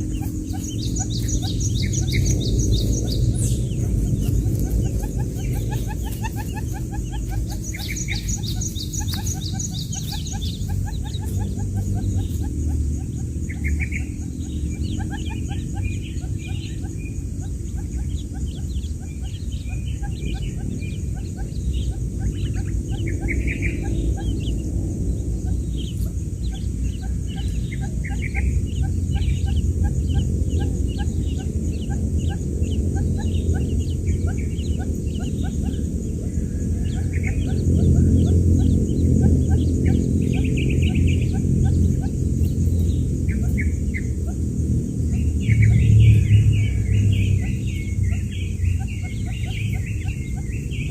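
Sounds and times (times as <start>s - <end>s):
quail chicks peeping: 0.0s - 50.9s
steady low hum: 0.0s - 50.9s.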